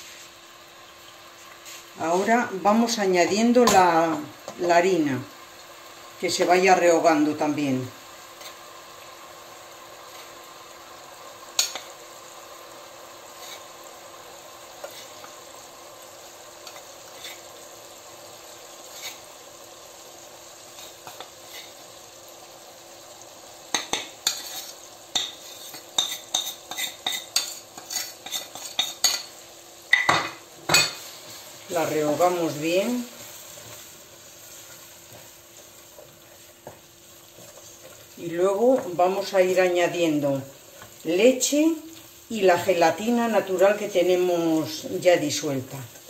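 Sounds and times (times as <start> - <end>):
fat sizzling in a pot: 0.0 - 46.0.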